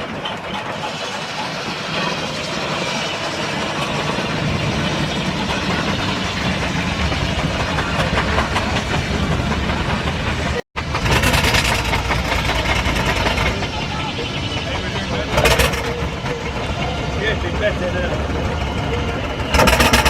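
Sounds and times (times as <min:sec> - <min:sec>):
steam traction engine running: 0:00.0 - 0:20.0.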